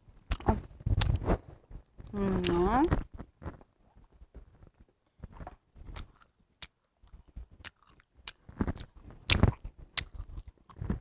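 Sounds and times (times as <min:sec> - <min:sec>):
chewing with crunches: 0:00.3 - 0:04.1, 0:05.1 - 0:11.0.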